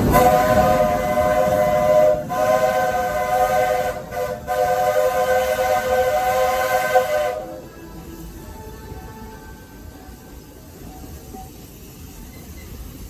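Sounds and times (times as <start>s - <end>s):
steam locomotive chime whistle: 0.0s - 13.0s.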